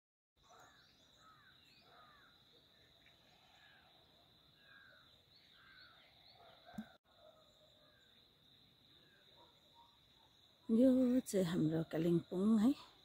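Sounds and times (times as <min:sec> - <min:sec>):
faint bird chirps: 0:00.4 - 0:13.0.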